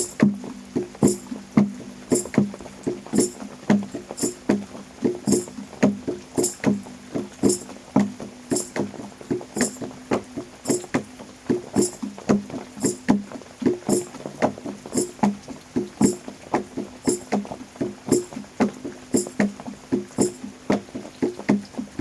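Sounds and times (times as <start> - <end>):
plucked stringed instrument: 0.0 - 9.9, 10.6 - 14.3, 14.9 - 20.5
crisp high percussive tick: 0.0 - 10.0, 10.6 - 14.2, 14.9 - 16.3, 17.0 - 17.4, 18.1 - 20.8.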